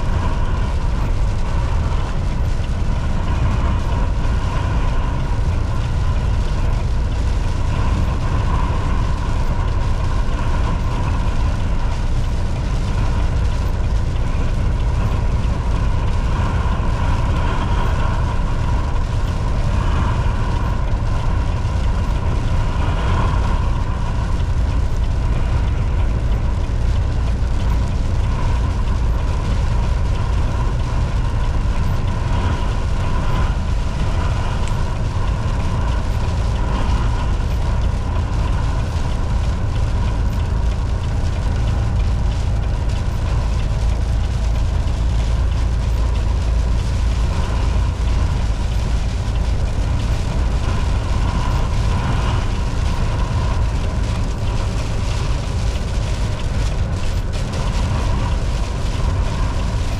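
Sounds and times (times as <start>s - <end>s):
road rumble: 0.0s - 59.9s
truck engine drone: 0.0s - 59.9s.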